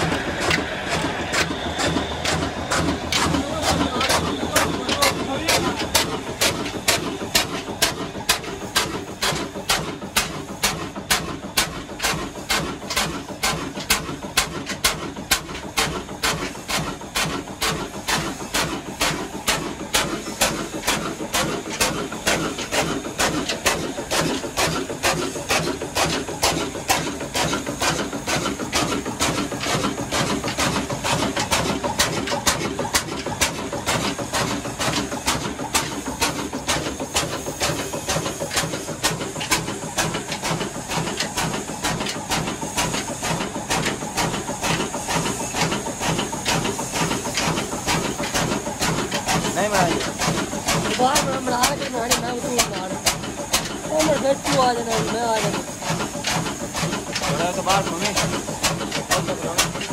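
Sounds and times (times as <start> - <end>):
diesel engine knocking rhythmically: 0.0 - 59.9.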